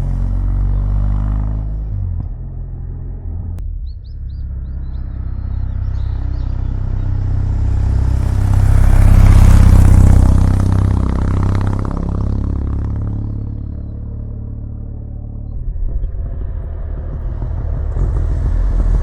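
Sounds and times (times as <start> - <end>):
motorcycle engine exhaust: 3.6 - 19.0.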